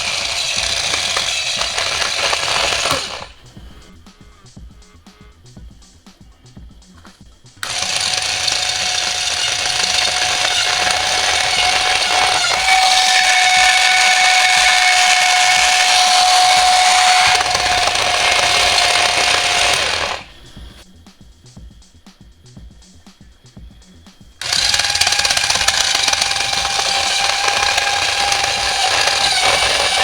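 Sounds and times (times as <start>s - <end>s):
electrical arcing buzz: 0.0s - 5.5s, 7.5s - 20.8s, 24.3s - 30.0s.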